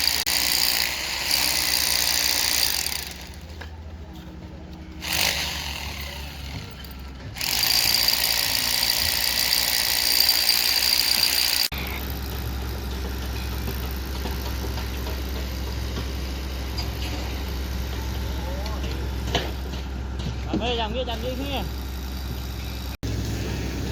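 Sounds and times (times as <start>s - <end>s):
excavator engine running: 0.0s - 20.4s.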